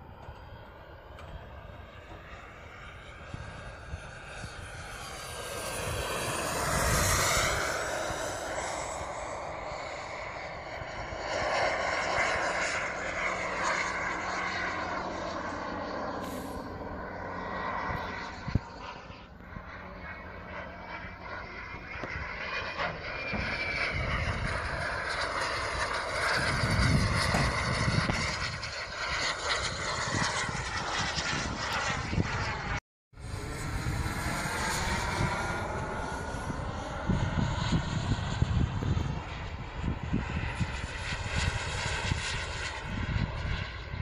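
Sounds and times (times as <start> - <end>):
model jet turbine whining: 0.0 - 44.0.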